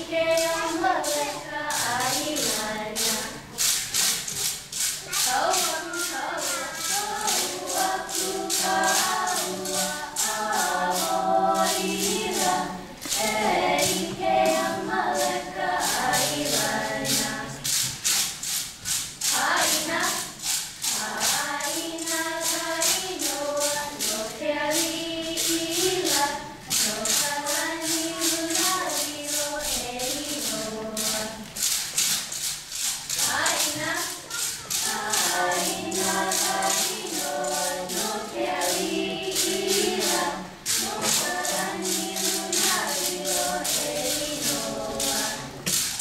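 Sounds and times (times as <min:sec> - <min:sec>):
group singing: 0:00.0 - 0:46.0
sticks clicking in rhythm: 0:00.0 - 0:46.0.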